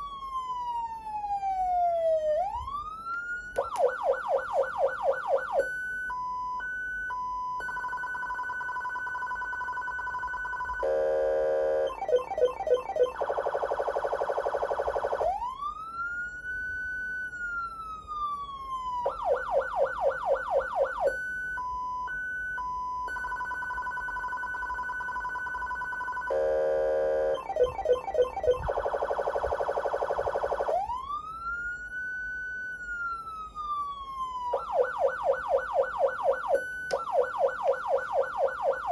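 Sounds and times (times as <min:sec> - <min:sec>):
electronic siren cycling tones: 0:00.0 - 0:38.9.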